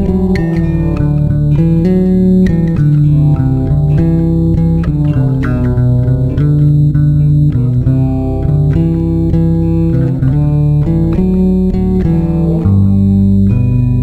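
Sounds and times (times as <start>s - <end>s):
low bass line: 0.0s - 14.0s
plucked guitar notes: 0.0s - 14.0s.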